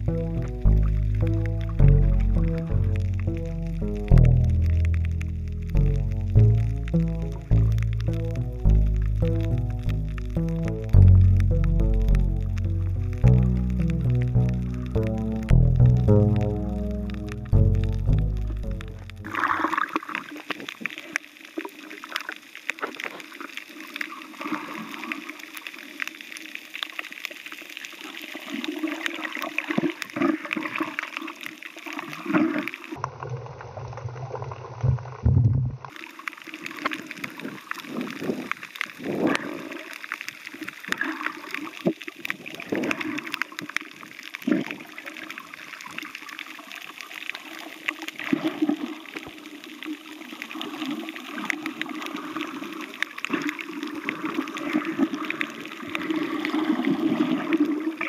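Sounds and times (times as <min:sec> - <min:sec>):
deep underwater rumbling: 0:00.0 - 0:20.8, 0:28.6 - 0:58.0
water gurgling underwater: 0:00.0 - 0:58.0.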